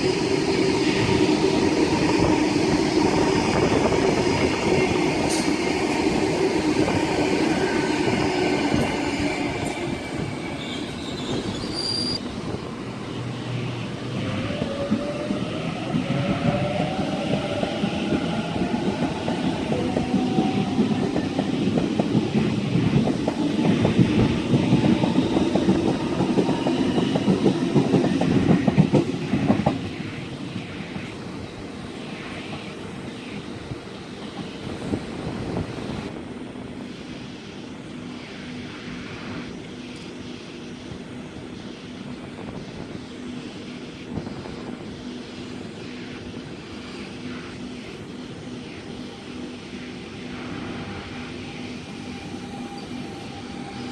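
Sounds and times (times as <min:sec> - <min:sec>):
train rumble: 0:00.0 - 0:53.9
train whine: 0:00.0 - 0:53.9.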